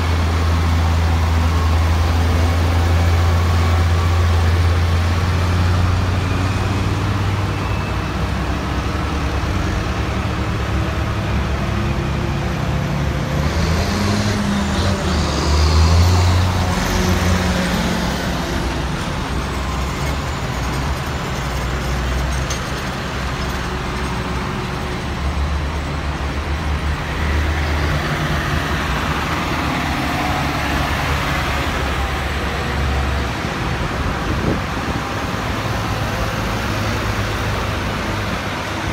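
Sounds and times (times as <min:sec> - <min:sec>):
tractor diesel engines droning: 0:00.0 - 0:38.9.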